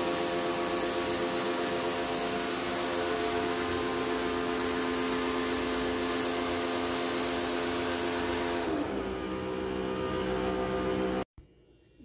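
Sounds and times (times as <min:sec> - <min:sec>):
pressure washer motor humming: 0:00.0 - 0:11.3.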